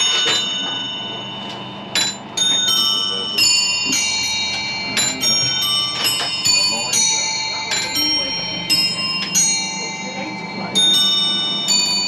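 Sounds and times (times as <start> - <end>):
small bells ringing: 0.0 - 12.0.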